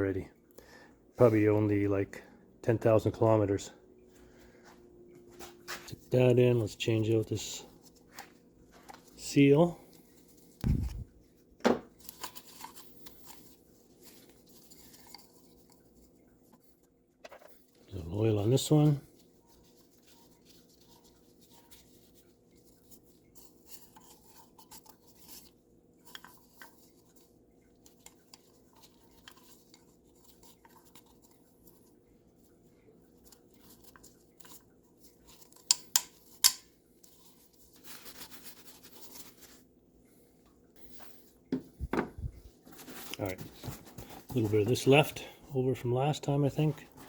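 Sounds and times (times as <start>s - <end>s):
soft rustle: 4.1s - 47.0s.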